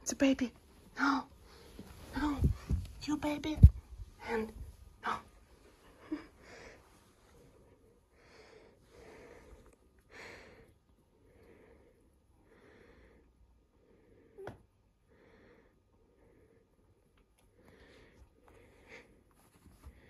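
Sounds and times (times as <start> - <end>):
soft breathy puffs: 0.7 - 14.4, 15.0 - 20.0.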